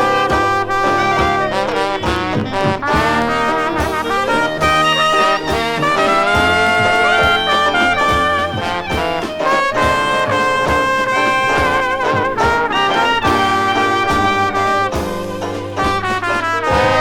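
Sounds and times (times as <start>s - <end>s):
jazz band playing: 0.0s - 17.0s
trumpet and trombone melody: 0.0s - 17.0s.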